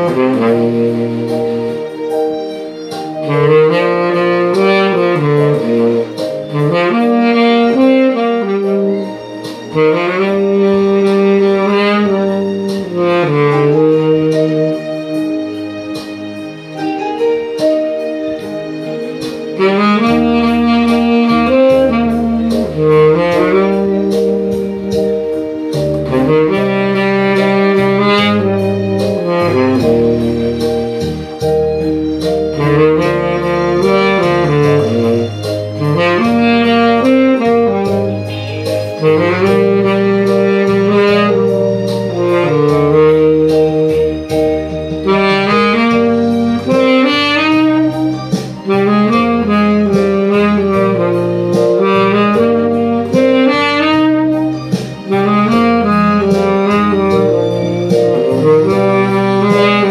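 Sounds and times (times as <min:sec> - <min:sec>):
bass: 0:00.0 - 0:59.9
sustained keyboard chords: 0:00.0 - 0:59.9
tenor saxophone ballad melody: 0:00.0 - 0:59.9.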